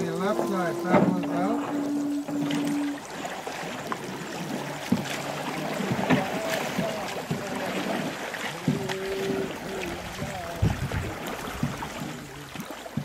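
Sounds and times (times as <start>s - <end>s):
paddles splashing in water: 0.0s - 13.0s.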